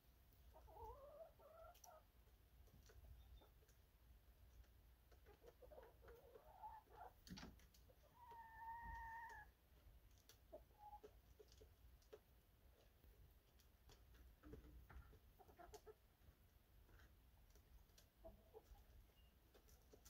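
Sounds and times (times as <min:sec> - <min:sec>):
hens clucking: 0:00.4 - 0:20.0.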